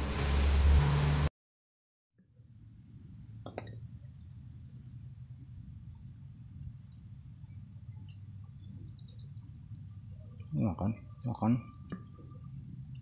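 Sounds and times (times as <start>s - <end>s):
thin high whine: 2.2s - 13.0s.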